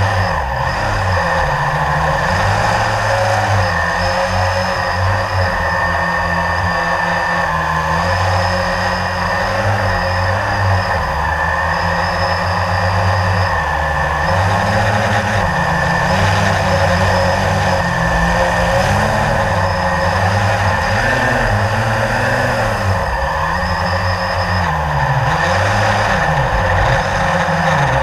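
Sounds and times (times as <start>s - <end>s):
drone propellers whirring: 0.0s - 28.0s.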